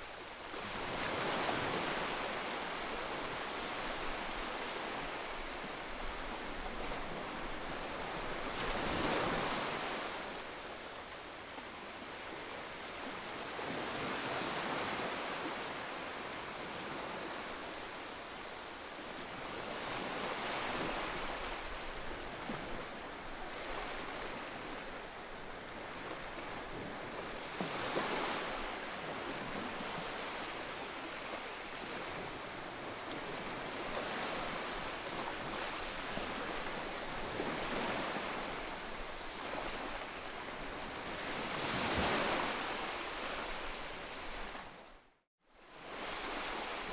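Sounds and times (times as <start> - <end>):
ocean waves breaking on shore: 0.0 - 46.9.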